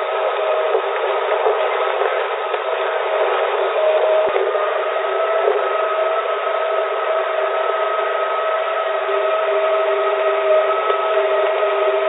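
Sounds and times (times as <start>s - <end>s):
steady humming tones: 0.0s - 12.0s.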